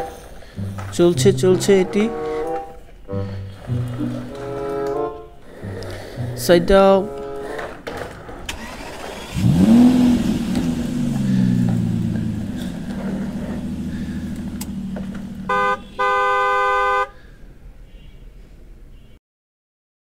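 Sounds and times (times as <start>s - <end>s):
toy vehicle engine effect: 0.0s - 16.1s
horn toot: 0.0s - 17.2s.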